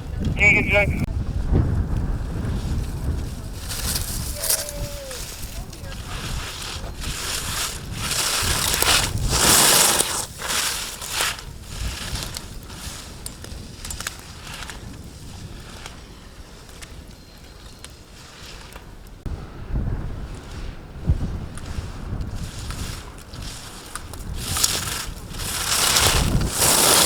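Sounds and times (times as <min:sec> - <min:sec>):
skis scraping on hard snow: 0:02.3 - 0:18.9, 0:20.2 - 0:27.0.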